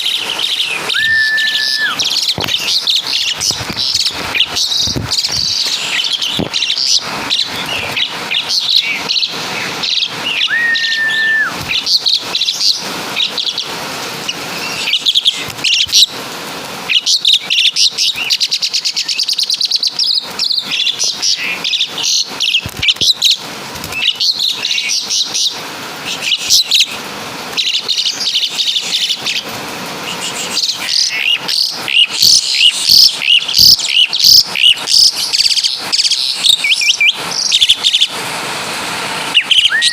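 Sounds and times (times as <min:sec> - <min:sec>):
starling chattering calls and whistles: 0:00.0 - 0:16.2, 0:16.8 - 0:38.2, 0:39.2 - 0:39.9.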